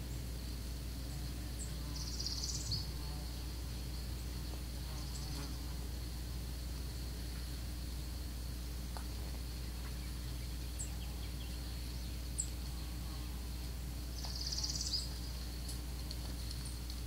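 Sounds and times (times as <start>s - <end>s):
high insect drone: 0.0s - 17.0s
low hum: 0.0s - 17.0s.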